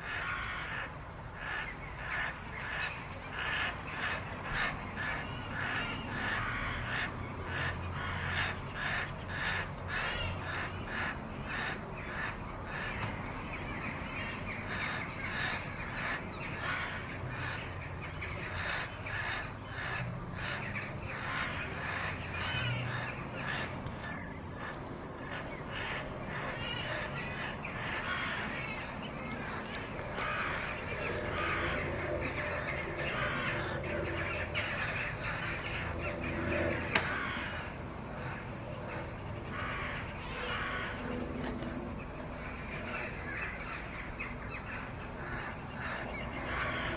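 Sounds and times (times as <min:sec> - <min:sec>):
harsh bird calls: 0:00.0 - 0:46.9.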